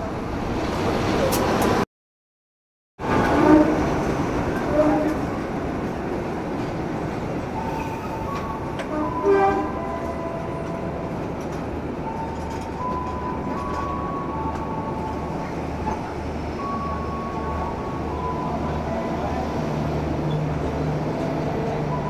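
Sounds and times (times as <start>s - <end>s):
diesel trains rumbling: 0.0s - 1.8s, 3.0s - 22.0s.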